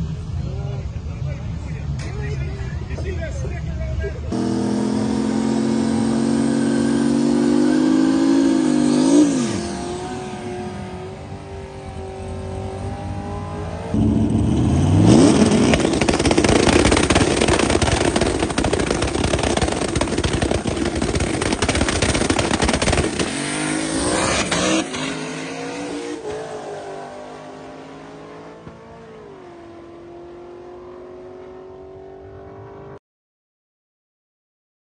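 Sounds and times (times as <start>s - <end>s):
turbocharged engine revving: 4.3s - 33.0s.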